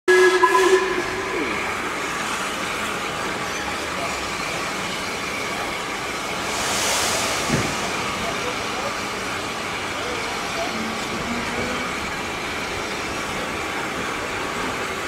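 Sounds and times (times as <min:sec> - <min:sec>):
steam locomotive starting: 0:00.1 - 0:15.0
loud hiss of steam: 0:01.3 - 0:15.0.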